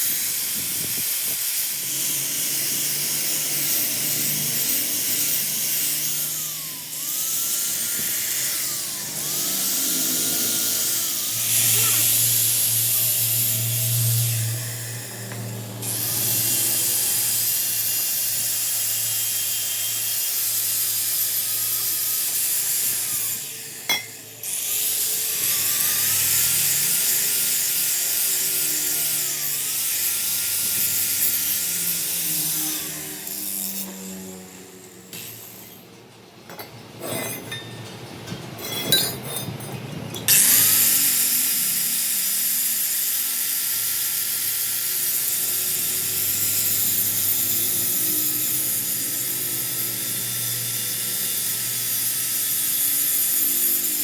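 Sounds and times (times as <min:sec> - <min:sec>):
power tool running: 0:00.0 - 0:36.0, 0:40.3 - 0:54.0.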